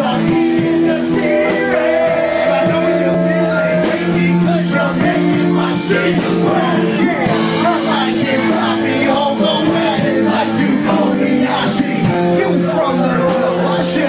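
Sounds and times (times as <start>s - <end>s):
electric guitar chords: 0.0s - 14.0s
steady drum beat: 0.0s - 14.0s.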